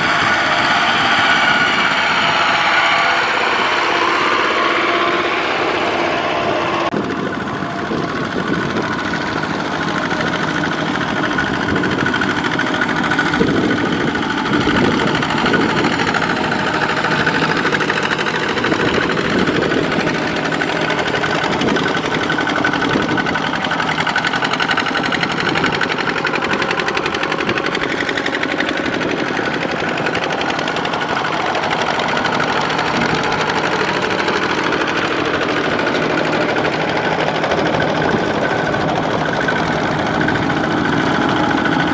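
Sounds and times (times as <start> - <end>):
diesel tractor engines running: 0.0 - 41.9.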